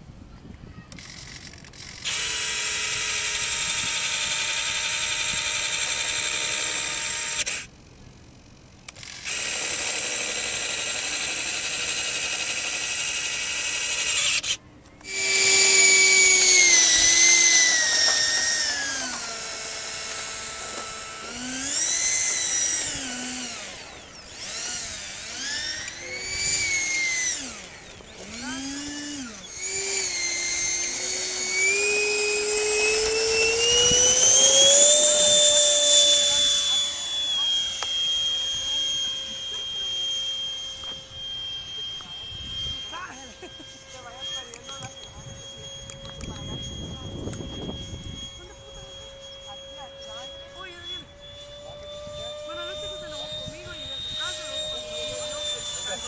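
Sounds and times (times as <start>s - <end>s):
electric ducted fan whine: 0.0s - 56.0s.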